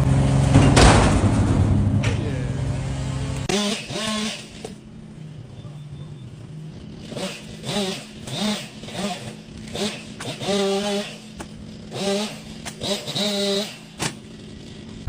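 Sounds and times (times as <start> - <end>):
faint engine revving: 0.0 - 15.0
loud engine machinery running: 0.0 - 15.0.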